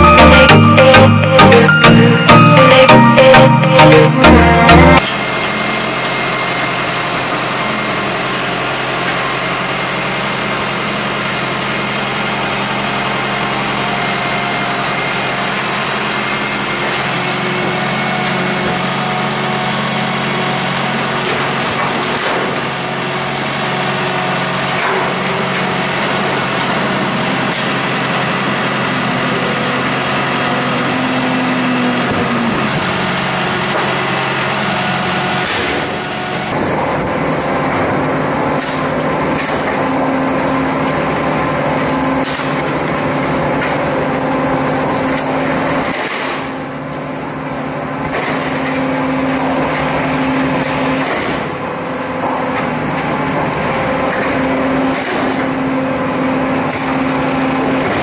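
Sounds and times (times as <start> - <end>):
garbage truck engine running: 0.0 - 58.0.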